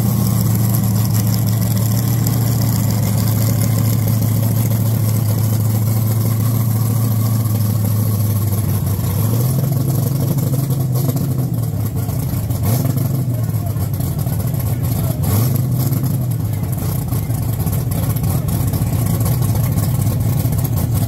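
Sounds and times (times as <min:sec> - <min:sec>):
race car engine idling: 0:00.0 - 0:21.0.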